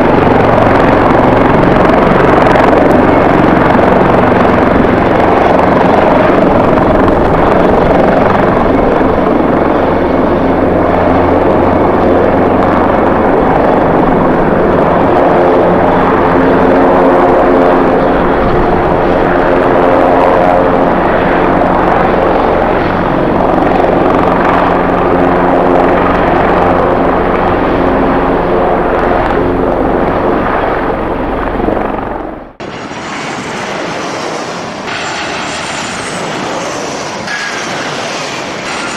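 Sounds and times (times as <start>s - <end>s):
buffeting wind: 0.0s - 38.9s
jet engines roaring and whining: 0.0s - 38.9s.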